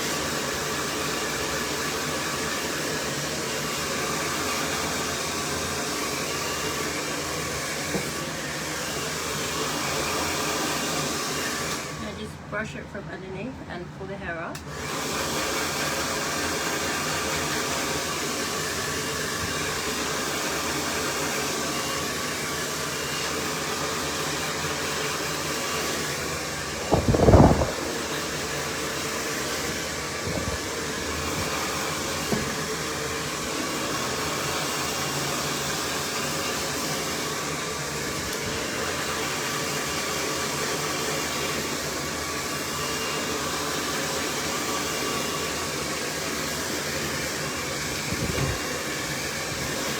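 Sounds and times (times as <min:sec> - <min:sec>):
hair dryer blowing: 0:00.0 - 0:13.4, 0:14.0 - 0:49.9.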